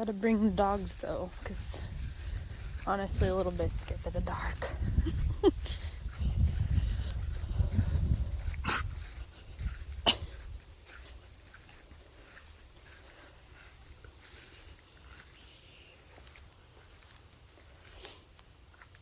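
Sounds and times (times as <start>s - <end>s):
crickets chirring: 0.0s - 19.0s
faint footsteps: 0.0s - 19.0s.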